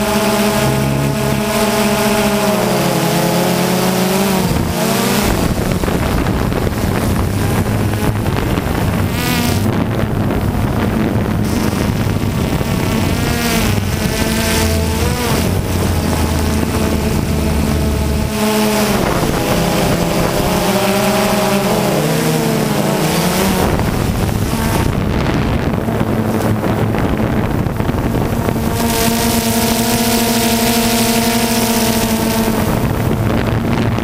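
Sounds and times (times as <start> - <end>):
drone propellers buzzing: 0.0 - 34.0
wind noise on microphone: 0.0 - 34.0.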